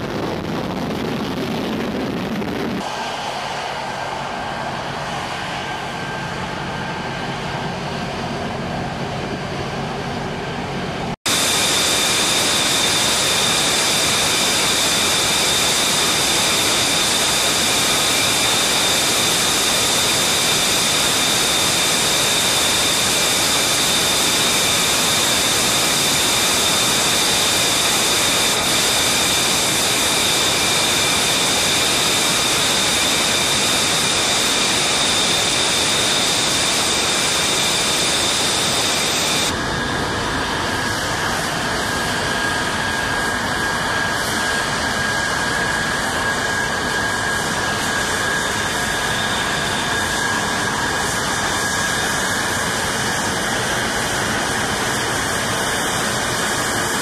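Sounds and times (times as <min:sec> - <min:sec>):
jet engine rush and whine: 0:00.0 - 0:57.0.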